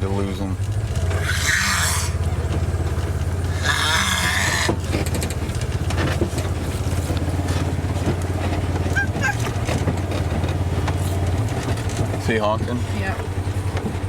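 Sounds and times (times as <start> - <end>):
light rattles and clicks: 0.0 - 1.2, 2.2 - 3.6, 4.4 - 14.0
vehicle engine running: 0.0 - 14.0.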